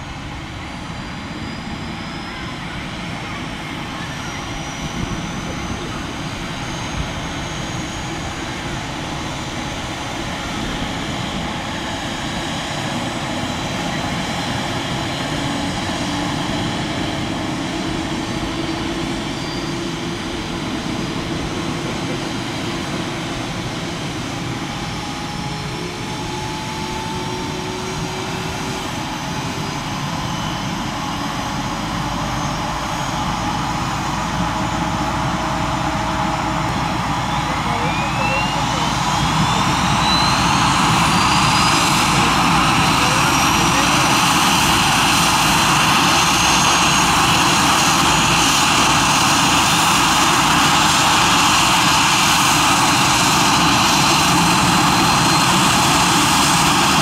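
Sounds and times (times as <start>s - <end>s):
helicopter turbine whining: 0.0s - 57.0s.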